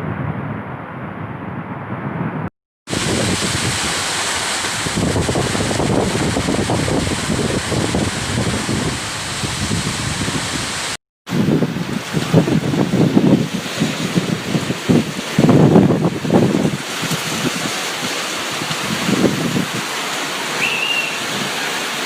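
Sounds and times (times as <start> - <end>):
rain: 2.9 - 22.0.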